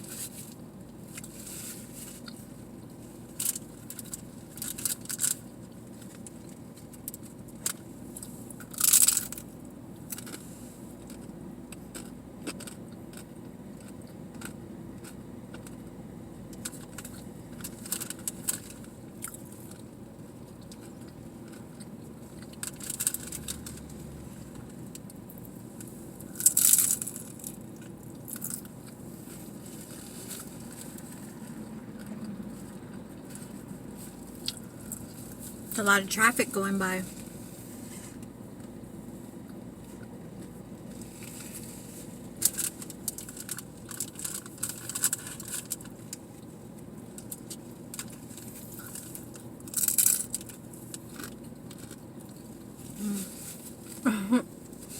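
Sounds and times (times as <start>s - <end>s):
chewing and biting tacos: 0.0s - 35.8s, 37.2s - 54.9s
steady low hum: 0.0s - 54.9s.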